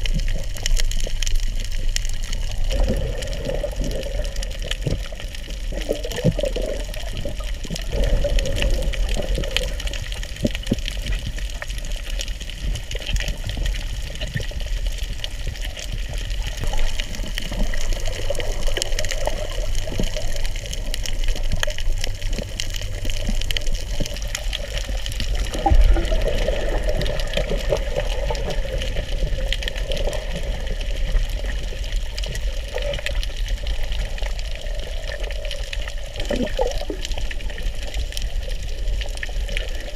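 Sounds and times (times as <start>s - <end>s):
muffled underwater rush: 0.0s - 39.9s
small underwater clicks and crackles: 0.0s - 39.9s.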